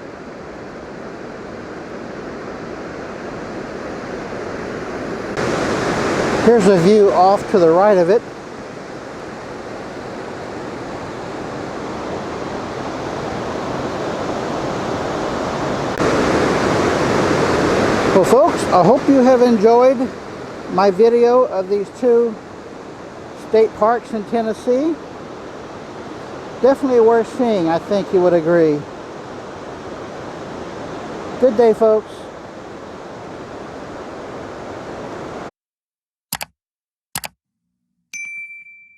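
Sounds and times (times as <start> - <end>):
waterfall roaring: 0.0 - 35.5.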